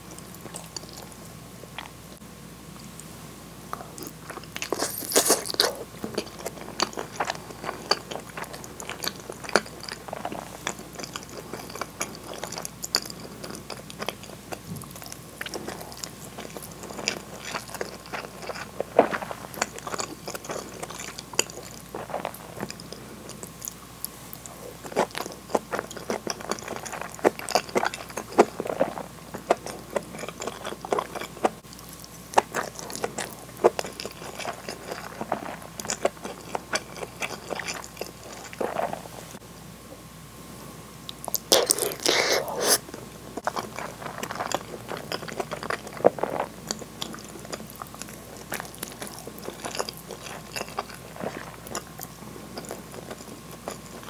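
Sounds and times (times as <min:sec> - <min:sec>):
person chewing food: 0:00.0 - 0:02.0, 0:03.7 - 0:39.4, 0:41.1 - 0:54.0.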